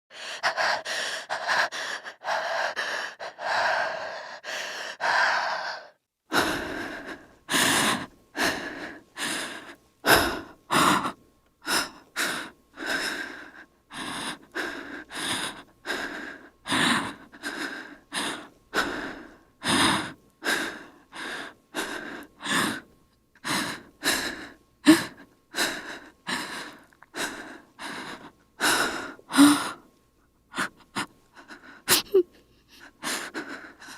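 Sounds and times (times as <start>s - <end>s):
woman panting and gasping: 0.1s - 29.8s, 30.5s - 33.9s.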